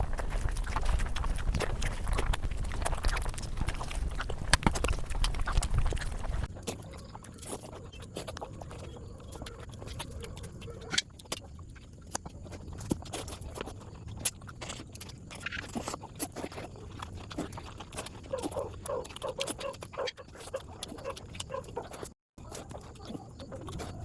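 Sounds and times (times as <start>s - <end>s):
wet chewing and lip-smacking: 0.0s - 24.0s.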